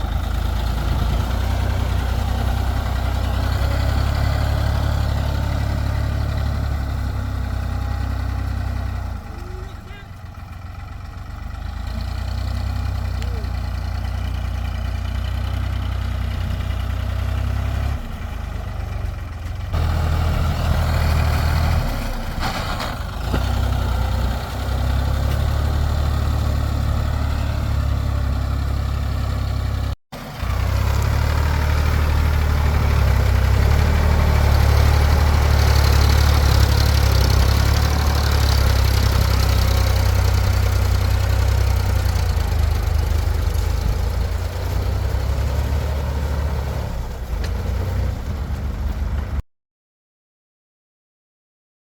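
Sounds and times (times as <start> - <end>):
tractor diesel engine running: 0.0 - 49.4.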